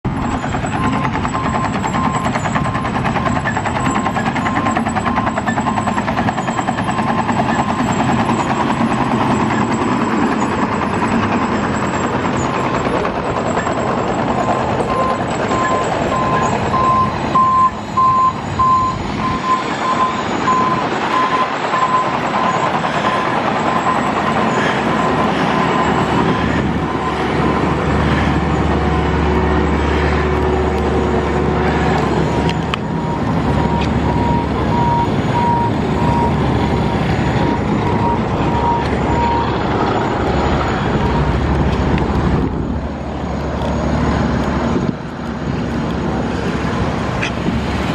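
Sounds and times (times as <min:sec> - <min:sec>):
heavy diesel machinery running: 0:00.0 - 0:47.9
truck backup alarm beeping: 0:00.1 - 0:46.9.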